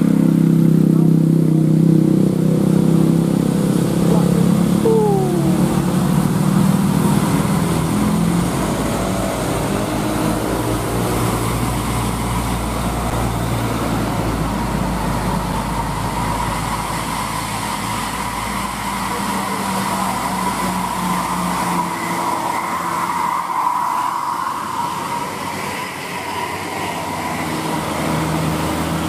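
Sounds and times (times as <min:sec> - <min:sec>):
heavy trucks driving past: 0:01.5 - 0:29.0.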